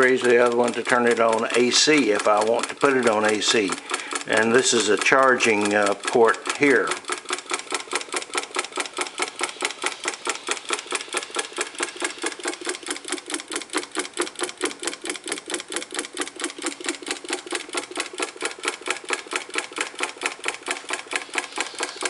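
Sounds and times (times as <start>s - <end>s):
solenoid engine clicking: 0.0s - 22.0s.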